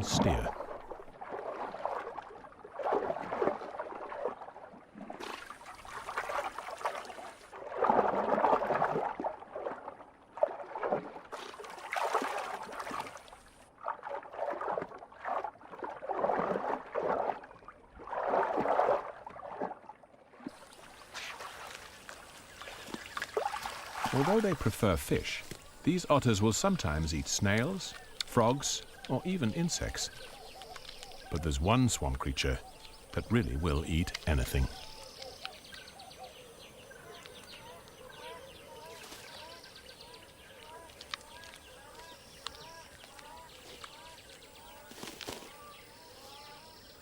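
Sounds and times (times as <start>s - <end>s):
water splashing and gurgling: 0.0s - 47.0s.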